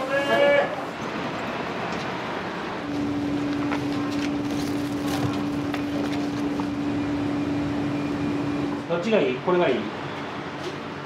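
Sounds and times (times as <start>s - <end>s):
machine humming: 0.0s - 9.0s.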